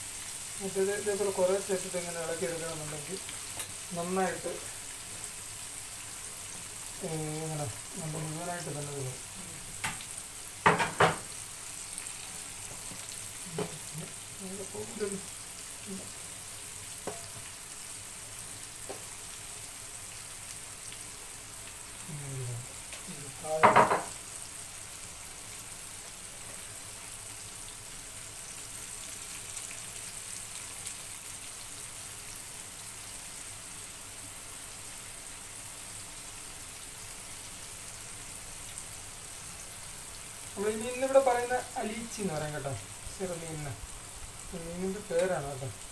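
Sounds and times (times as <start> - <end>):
fish sizzling in hot oil: 0.0 - 45.9.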